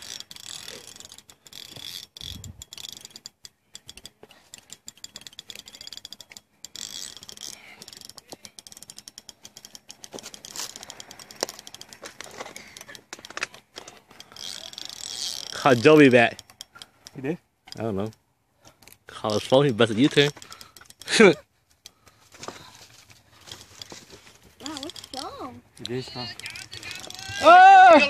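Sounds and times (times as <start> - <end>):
fishing reel clicking rapidly: 0.0 - 18.2, 18.9 - 22.1, 23.4 - 28.0.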